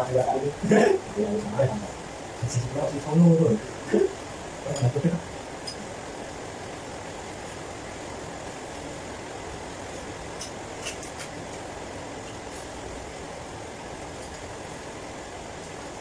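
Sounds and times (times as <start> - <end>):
low room noise: 0.0 - 16.0.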